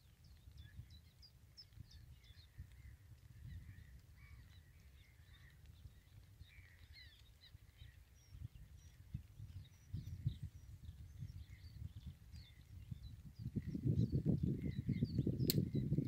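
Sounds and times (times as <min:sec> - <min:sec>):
faint birds chirping: 0:00.0 - 0:16.0
wind rumble on microphone: 0:00.0 - 0:16.0.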